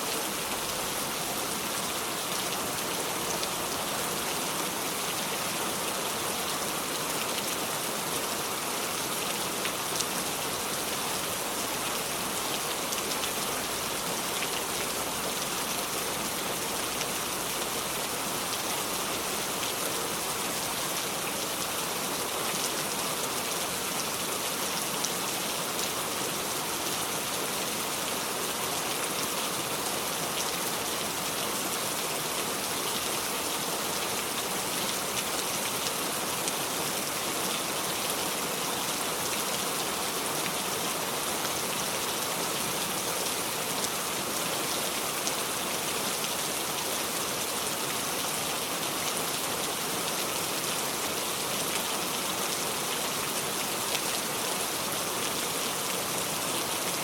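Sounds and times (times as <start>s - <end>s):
heavy rain pattering on surfaces: 0.0s - 57.0s.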